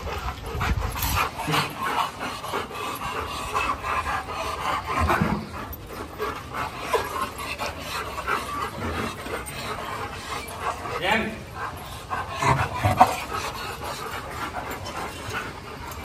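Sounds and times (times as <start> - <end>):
dogs panting: 0.0 - 16.0.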